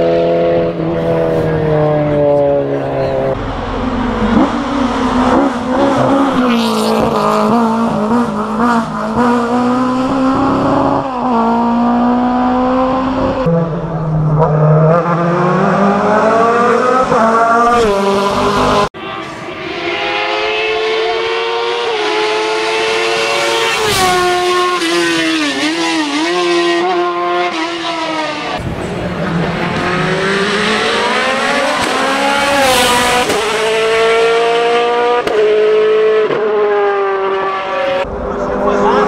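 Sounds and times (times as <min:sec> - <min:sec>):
racing car engines at high revs: 0:00.0 - 0:39.0
rapid engine downshifts: 0:00.0 - 0:39.0.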